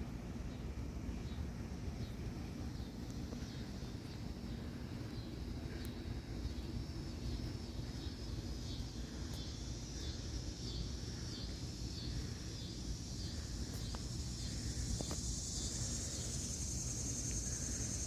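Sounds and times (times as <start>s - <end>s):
high insect trill: 0.0s - 18.0s
pulsing insect call: 0.4s - 18.0s.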